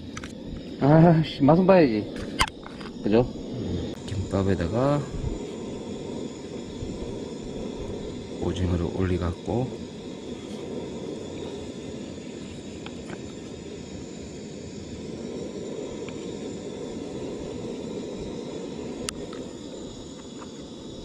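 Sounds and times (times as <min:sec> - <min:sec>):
outdoor rumble and hiss: 0:00.0 - 0:21.0.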